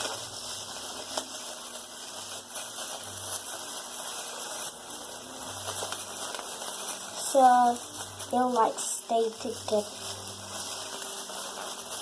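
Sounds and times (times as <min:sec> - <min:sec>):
plastic bag rustling and crinkling: 0:00.0 - 0:12.0
steady hiss: 0:00.0 - 0:12.0.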